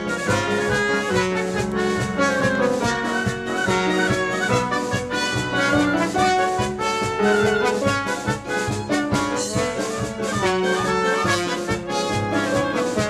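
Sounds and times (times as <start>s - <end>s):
small orchestra playing ragtime: 0.0s - 13.0s.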